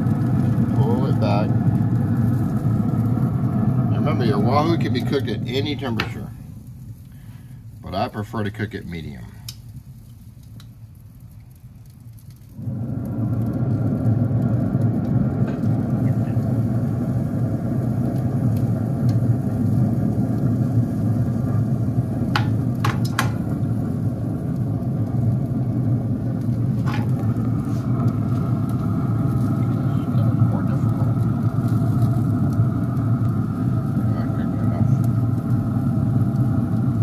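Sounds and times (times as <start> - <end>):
low machine rumble: 0.0 - 37.0.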